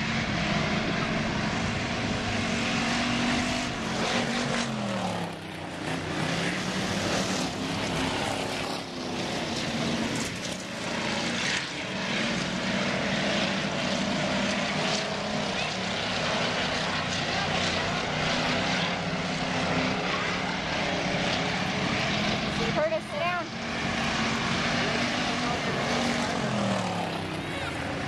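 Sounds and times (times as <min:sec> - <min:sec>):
race car engines droning: 0:00.0 - 0:28.0.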